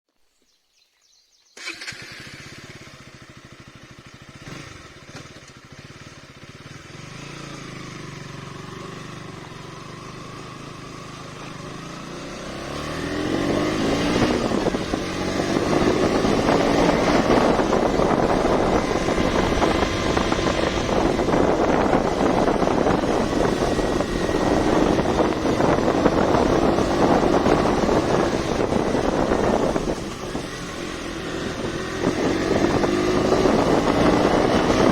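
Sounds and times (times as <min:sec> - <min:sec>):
motorcycle engine: 0:01.5 - 0:34.9.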